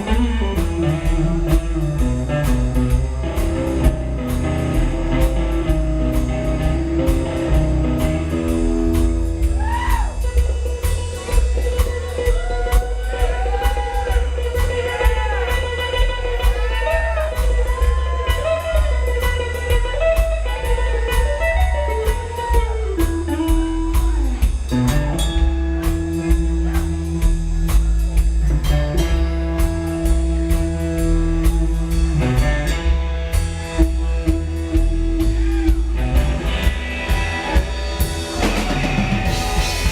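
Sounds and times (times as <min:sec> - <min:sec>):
electric guitar solo with bent notes: 0:00.0 - 0:27.7, 0:28.6 - 0:39.9
rockabilly band playing: 0:00.0 - 0:39.9.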